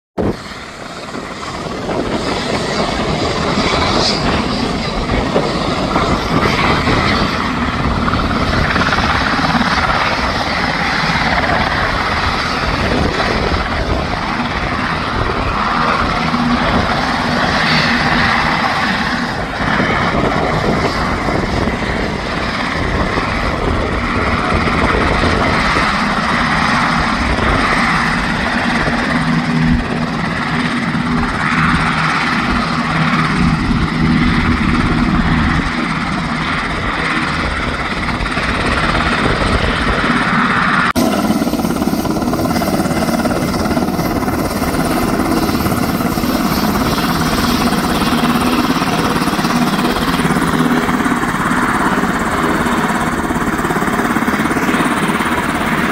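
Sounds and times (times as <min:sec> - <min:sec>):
helicopter engines and rotor droning: 0:00.2 - 0:55.9.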